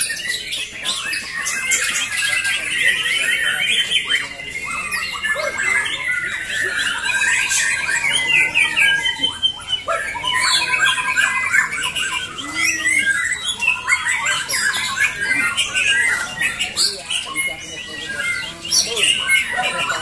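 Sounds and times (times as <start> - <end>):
many songbirds singing: 0.0 - 20.0.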